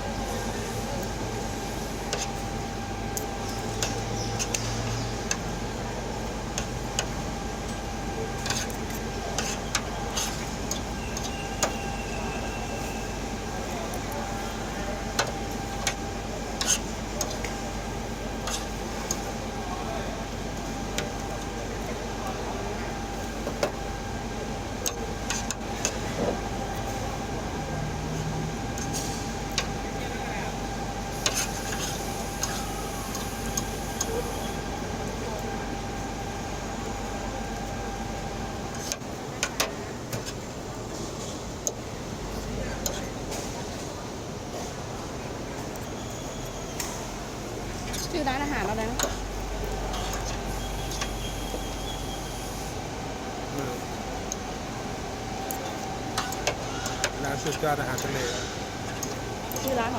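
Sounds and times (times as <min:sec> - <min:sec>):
busy eatery din: 0:00.0 - 0:59.9
steady restaurant hum: 0:00.0 - 0:59.9.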